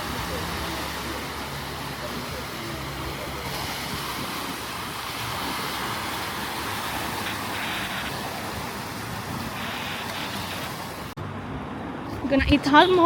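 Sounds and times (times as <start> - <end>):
surf breaking on shore: 0.0 - 11.2.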